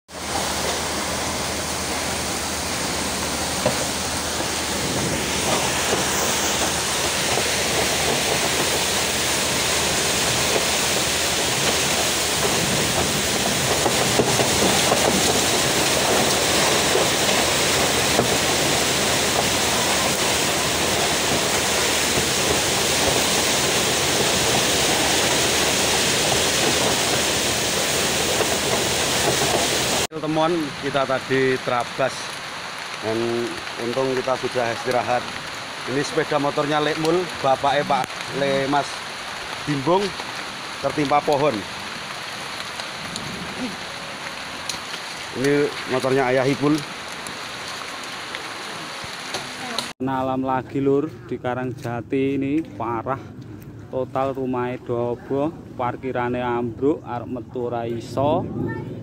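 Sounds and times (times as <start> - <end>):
storm wind: 0.1 - 49.9, 53.0 - 59.0
rain: 0.1 - 50.6, 52.1 - 59.0.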